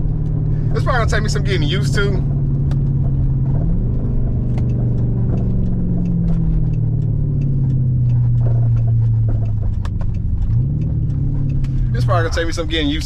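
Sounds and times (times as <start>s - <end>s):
car engine idle rumble: 0.0s - 13.0s
light ticks: 0.1s - 13.0s.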